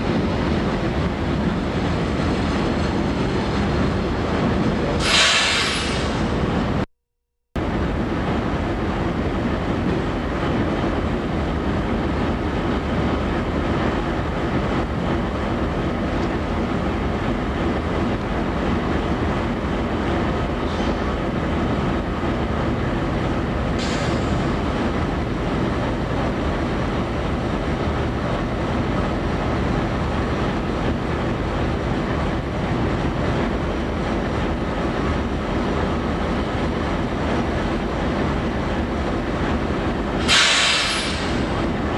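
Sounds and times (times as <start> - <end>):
train rumbling on rails: 0.0 - 6.9, 7.6 - 41.9.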